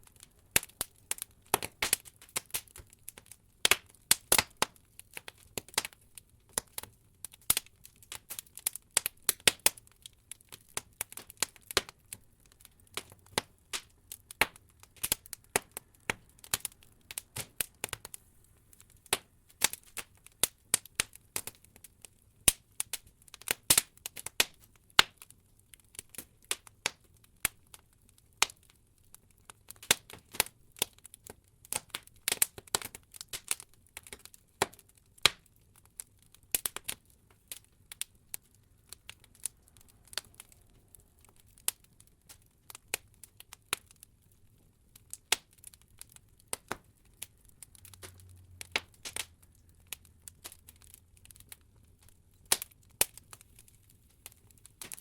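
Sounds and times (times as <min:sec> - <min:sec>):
logs crackling and popping in fire: 0:00.0 - 0:55.0.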